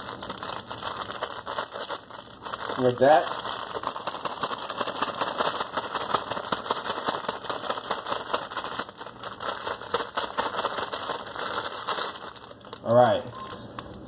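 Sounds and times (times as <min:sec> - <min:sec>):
bag crinkling: 0:00.0 - 0:14.0
chips rattling in shaken bag: 0:00.0 - 0:14.0.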